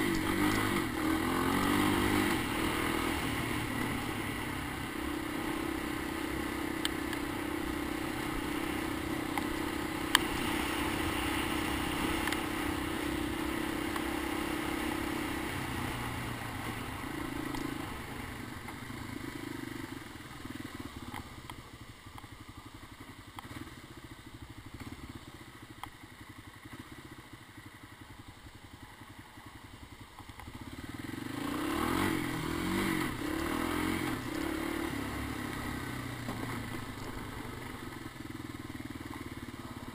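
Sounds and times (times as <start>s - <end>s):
three-wheeler engine running: 0.0s - 39.9s.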